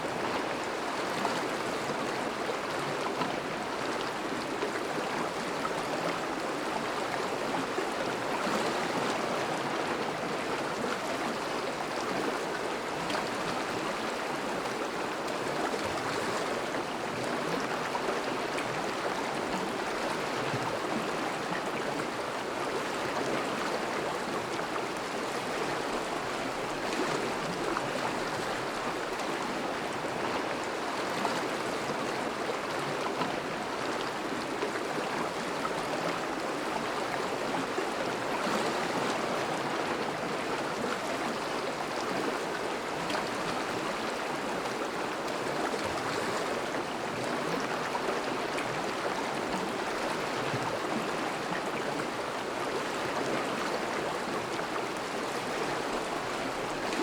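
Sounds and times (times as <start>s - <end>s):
river water rushing over ice: 0.1s - 57.0s.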